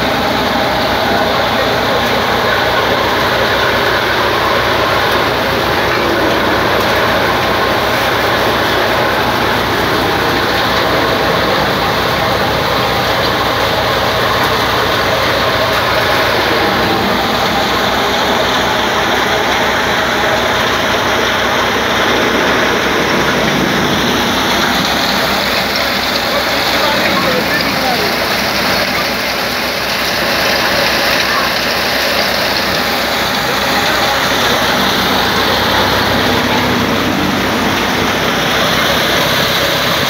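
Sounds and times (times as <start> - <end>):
heavy machinery engine running: 0.0 - 40.0.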